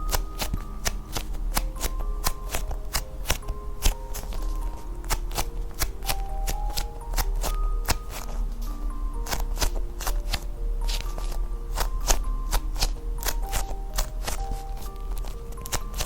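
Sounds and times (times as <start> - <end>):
music-box style melody: 0.0 - 16.0.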